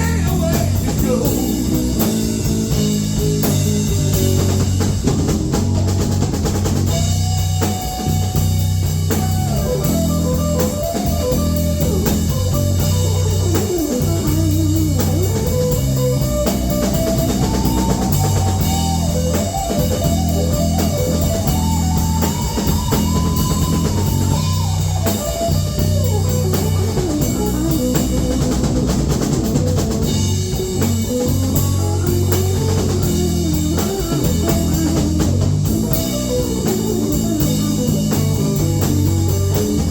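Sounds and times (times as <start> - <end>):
blues-rock band playing: 0.0 - 39.9
lead guitar solo: 0.0 - 39.9.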